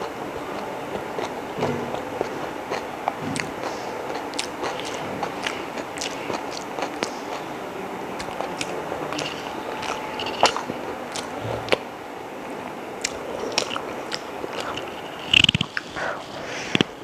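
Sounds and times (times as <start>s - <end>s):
wet chewing and biting: 0.0s - 7.5s, 8.1s - 11.9s, 13.0s - 16.9s
mouth clicks: 0.0s - 17.0s.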